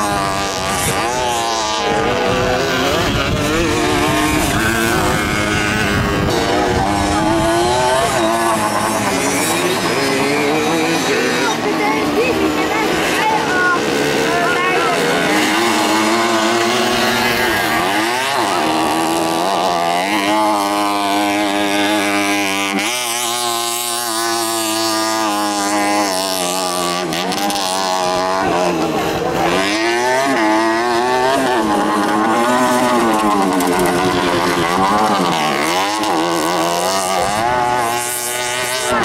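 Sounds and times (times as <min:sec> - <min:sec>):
moped engine revving: 0:00.0 - 0:39.0.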